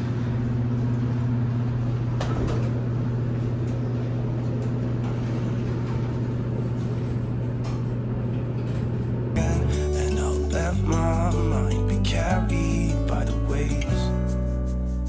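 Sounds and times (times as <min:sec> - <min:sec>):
elevator electrical hum: 0:00.0 - 0:15.0.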